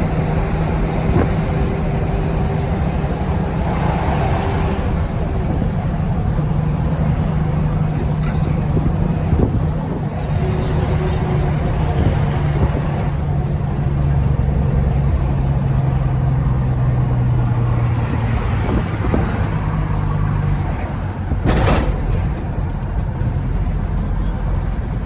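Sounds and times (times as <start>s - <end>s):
truck engine humming: 0.0s - 25.0s.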